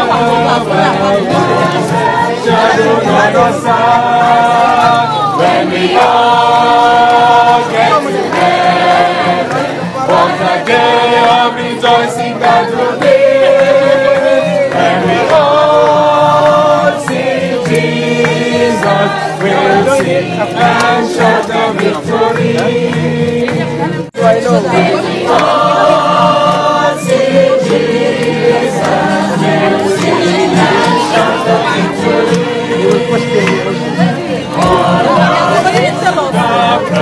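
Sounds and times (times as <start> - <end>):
group singing a hymn: 0.0 - 37.0.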